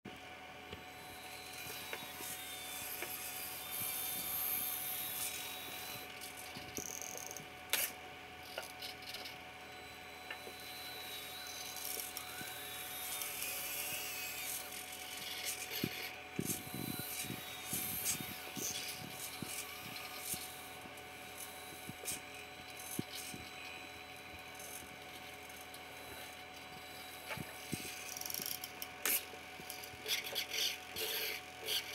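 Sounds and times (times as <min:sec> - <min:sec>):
faint mechanical whine: 0:00.1 - 0:31.9.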